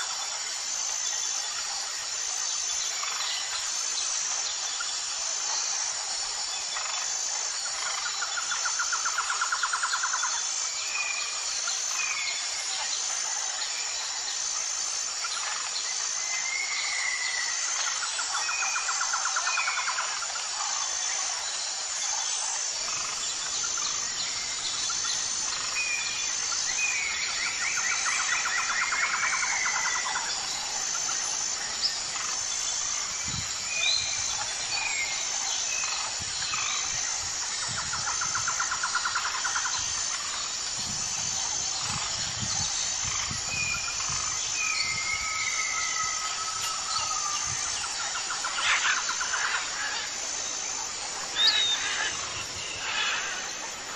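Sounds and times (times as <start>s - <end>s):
songbirds chirping and trilling: 0.0s - 53.9s
steady hiss: 0.0s - 53.9s.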